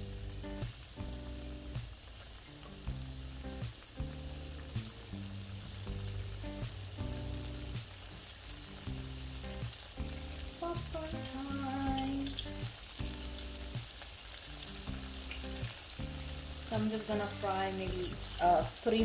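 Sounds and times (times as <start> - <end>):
background music: 0.0 - 19.0
chicken deep-frying in oil: 0.0 - 19.0.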